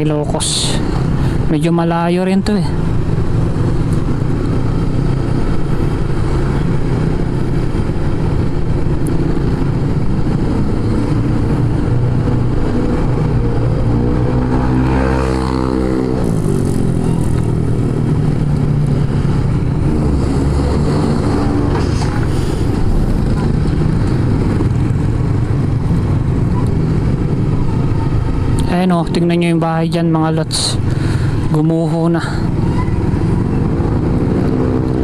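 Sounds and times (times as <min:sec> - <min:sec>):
wind rumbling on microphone: 0:00.0 - 0:31.6, 0:32.4 - 0:35.0
passing vehicle engine: 0:02.7 - 0:29.4, 0:30.2 - 0:35.0.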